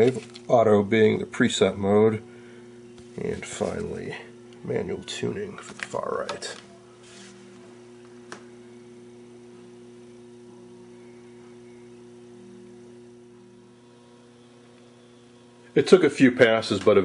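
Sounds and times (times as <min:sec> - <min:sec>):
faint electrical mains hum: 0:00.0 - 0:17.0.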